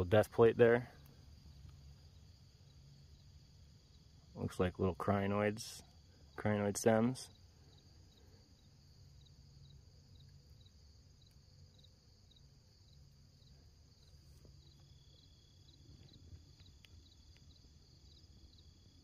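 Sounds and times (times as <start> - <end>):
cricket chirping: 0.0 - 19.0
second insect trill: 0.0 - 19.0
steady high insect trill: 0.0 - 19.0.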